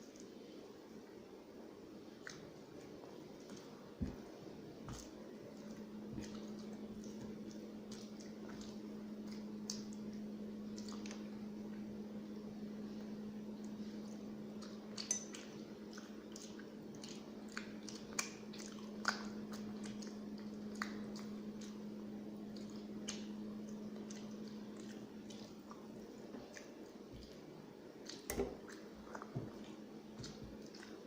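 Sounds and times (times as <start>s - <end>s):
low hum: 0.5s - 31.0s
wet chewing: 2.1s - 31.0s.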